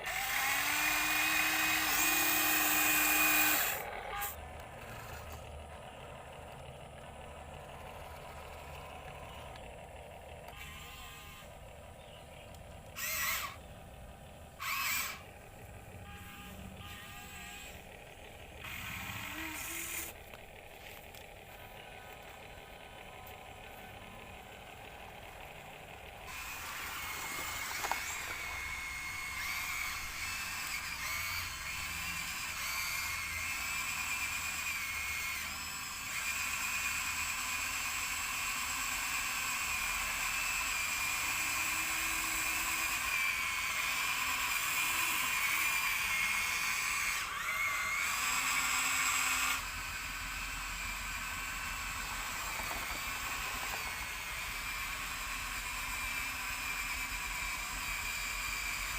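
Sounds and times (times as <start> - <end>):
toy electric motor whining: 0.0 - 58.9.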